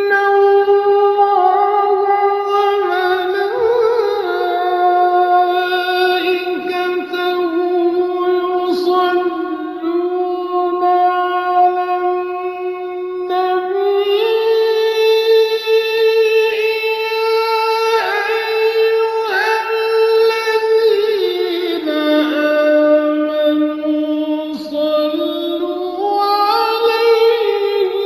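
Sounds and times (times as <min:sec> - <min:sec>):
person reciting melodically: 0:00.0 - 0:28.0.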